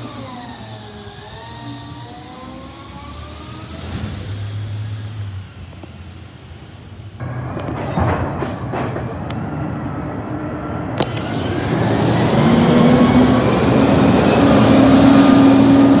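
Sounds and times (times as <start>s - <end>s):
garbage truck engine drone: 0.0s - 16.0s.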